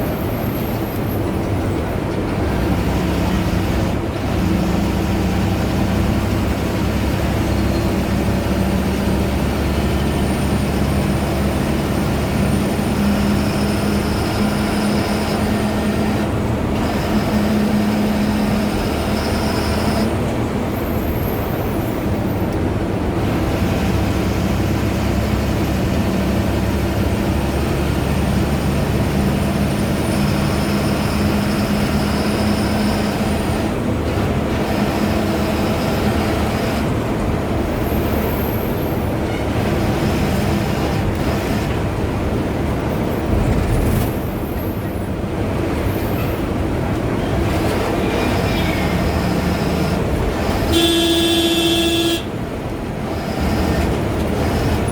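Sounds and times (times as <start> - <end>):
diesel engine hum: 0.0 - 54.9.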